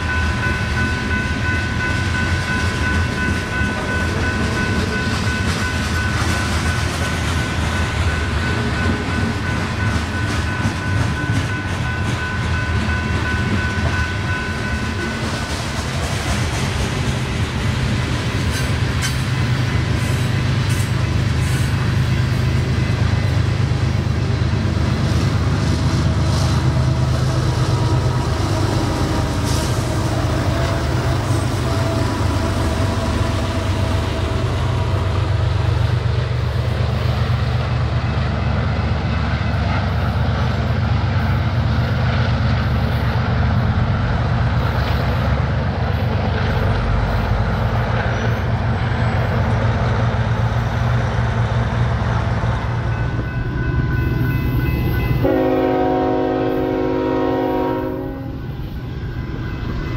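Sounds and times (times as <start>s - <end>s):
freight train rumbling on rails: 0.0s - 59.9s.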